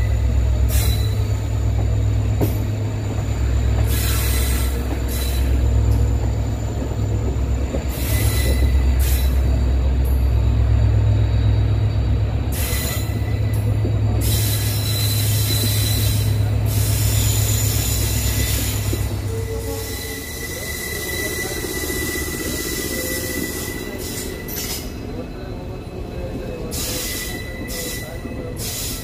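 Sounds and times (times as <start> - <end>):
rail noise: 0.0 - 29.0
train engine drone: 0.0 - 29.0.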